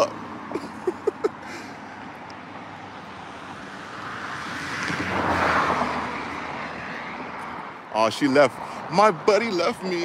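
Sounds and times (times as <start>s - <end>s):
vehicle passing by: 1.4s - 10.0s.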